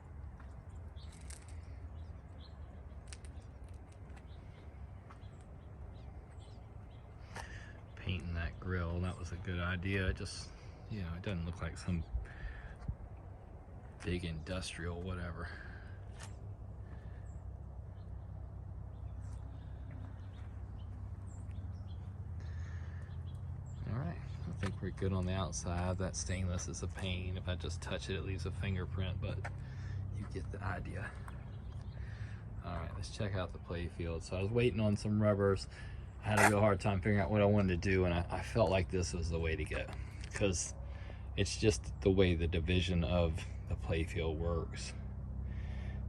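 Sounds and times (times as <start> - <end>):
small birds chirping: 0.0 - 46.0
steady low rumble: 0.0 - 46.0.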